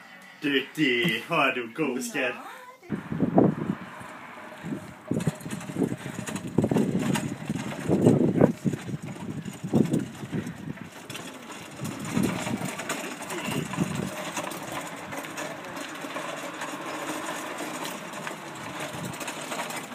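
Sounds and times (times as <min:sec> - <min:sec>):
wagon rolling over asphalt: 0:02.9 - 0:19.9.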